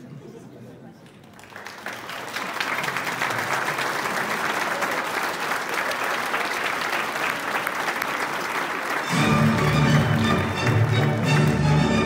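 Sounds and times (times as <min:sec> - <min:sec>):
crowd applauding: 0:01.0 - 0:12.0.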